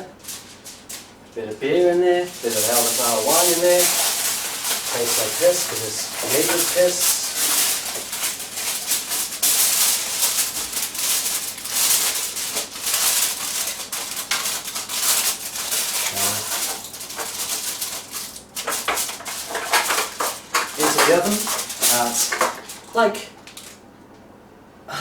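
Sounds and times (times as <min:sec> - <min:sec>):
aluminium foil crinkling: 0:00.0 - 0:23.9.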